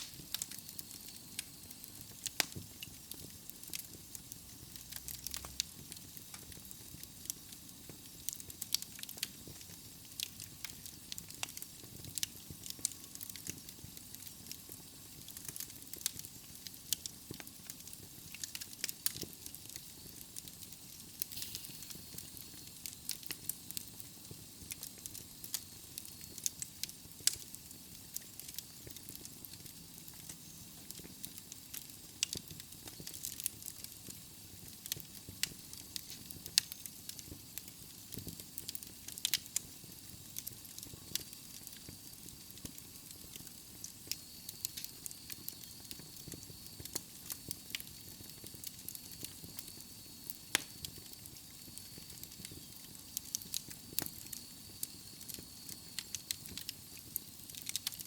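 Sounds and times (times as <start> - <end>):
logs crackling and popping: 0.0 - 58.0
soft hiss of flames: 0.0 - 58.0.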